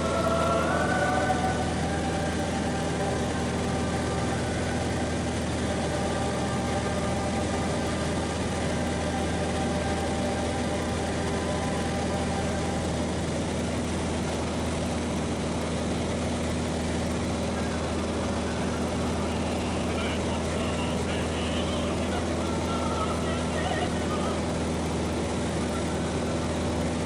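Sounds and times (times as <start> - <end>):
light aircraft engine drone: 0.0 - 27.0.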